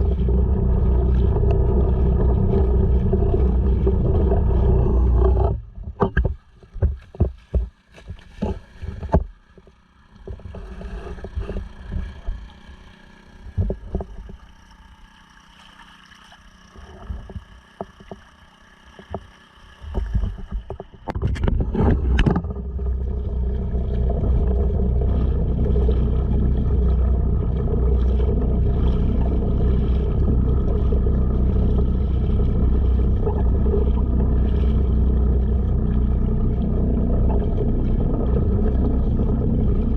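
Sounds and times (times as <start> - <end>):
outboard motor: 0.0 - 39.9.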